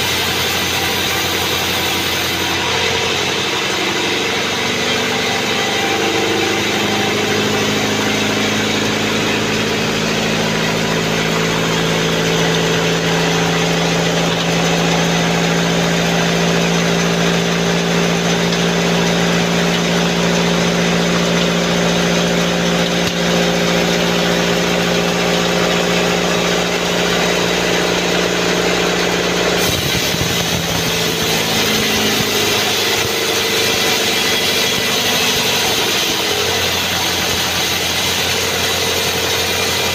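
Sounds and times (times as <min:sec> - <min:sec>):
bandsaw and engine humming: 0:00.0 - 0:39.9.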